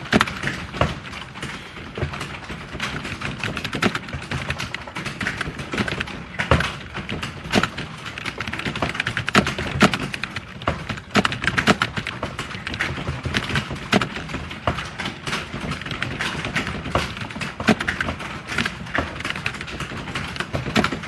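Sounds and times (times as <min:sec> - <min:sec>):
fast typing on keyboard: 0:00.0 - 0:21.0.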